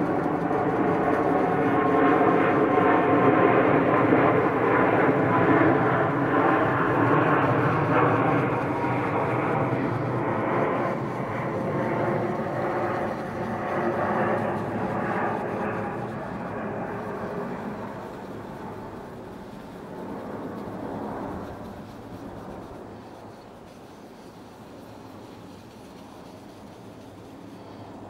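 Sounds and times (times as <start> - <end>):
aircraft engine roar overhead: 0.0 - 28.0.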